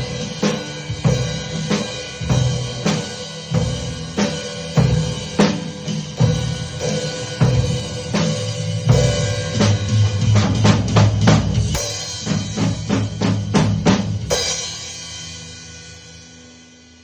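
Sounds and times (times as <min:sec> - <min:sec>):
rock backing track: 0:00.0 - 0:16.9
drum kit playing: 0:00.0 - 0:17.0.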